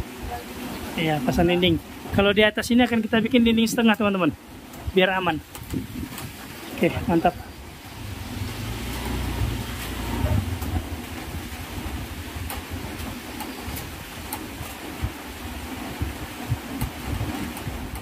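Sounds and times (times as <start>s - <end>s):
light rain hiss: 0.0s - 18.0s
wind buffeting microphone: 0.0s - 18.0s.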